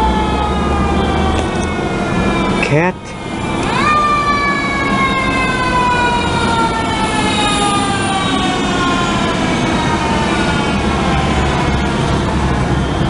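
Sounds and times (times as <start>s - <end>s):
fire truck siren: 0.0s - 13.0s.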